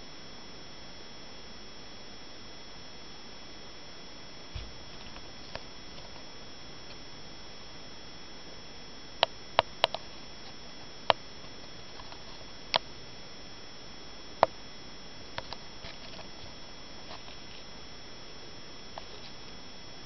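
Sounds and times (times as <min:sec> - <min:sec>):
faint high whine: 0:00.0 - 0:20.0.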